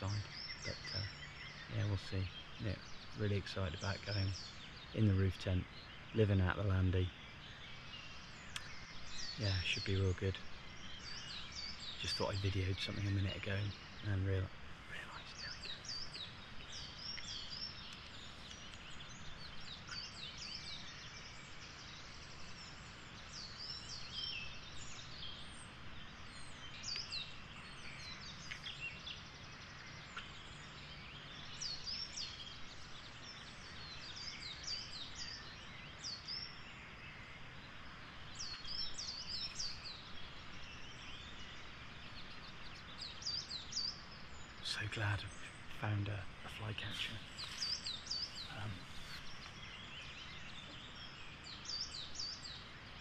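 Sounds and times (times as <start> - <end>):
flycatcher calling: 0.0 - 53.0
songbirds singing and calling: 0.0 - 53.0.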